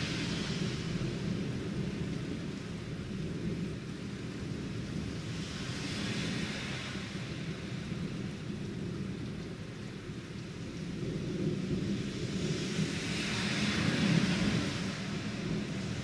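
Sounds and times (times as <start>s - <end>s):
car tyres hissing on wet street: 0.0s - 16.0s
steady rain: 0.0s - 16.0s.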